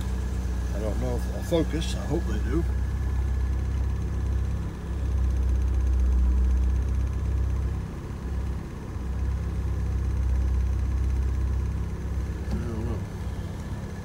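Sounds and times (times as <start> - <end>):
car engine running smoothly: 0.0 - 14.0.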